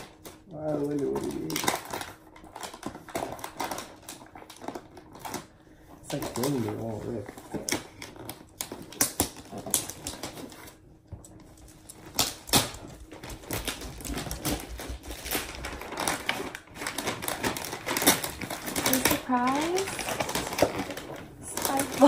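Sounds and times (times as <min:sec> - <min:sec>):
gift wrapping paper crinkling and tearing: 0:00.0 - 0:22.0.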